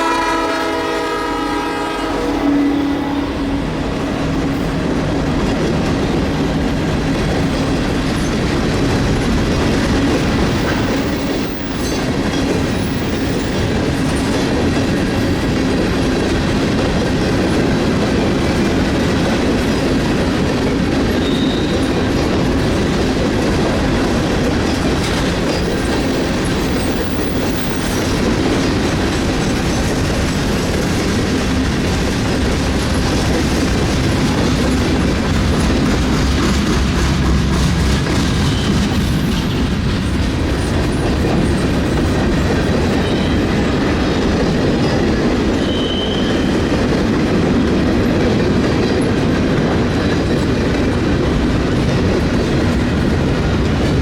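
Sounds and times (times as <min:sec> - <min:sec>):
freight train rumbling: 0:00.0 - 0:54.0
train wheels clacking on rails: 0:00.0 - 0:54.0.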